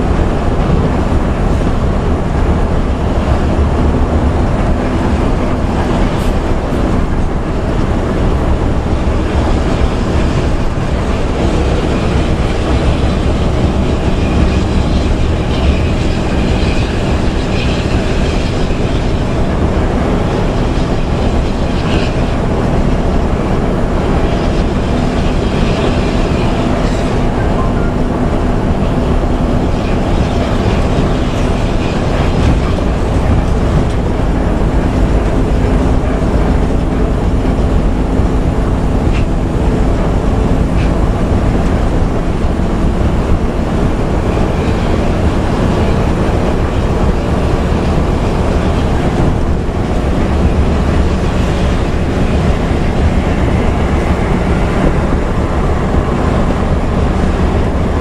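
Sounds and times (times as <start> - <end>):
bus engine and exhaust droning: 0.0 - 58.0
tyre and road rumble: 0.0 - 58.0.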